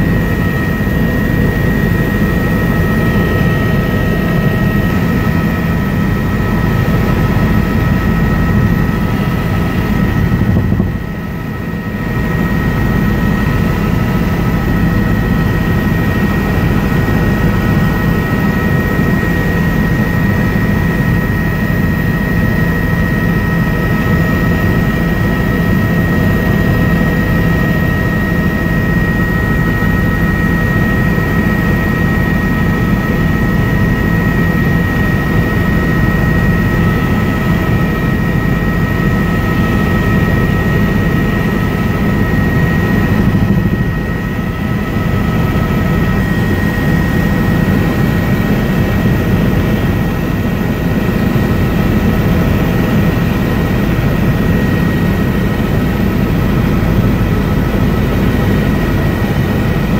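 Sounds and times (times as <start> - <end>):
helicopter engine and rotor drone: 0.0 - 59.9
steady high whine: 0.0 - 59.9.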